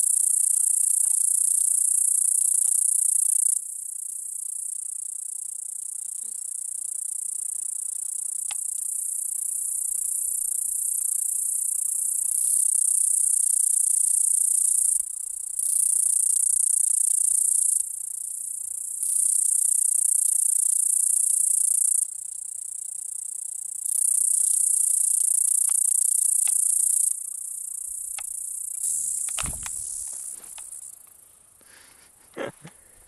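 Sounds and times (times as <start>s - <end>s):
cicadas buzzing: 0.0s - 31.8s.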